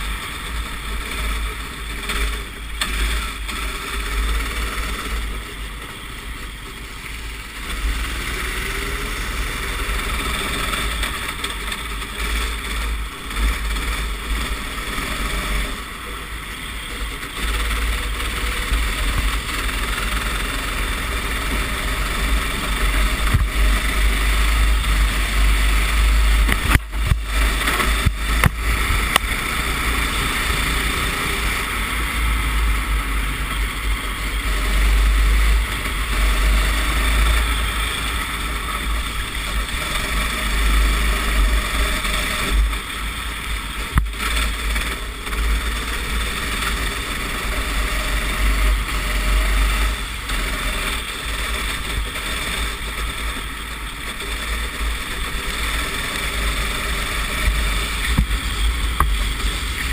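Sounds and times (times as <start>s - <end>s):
kart engine running under load: 0.0s - 59.9s.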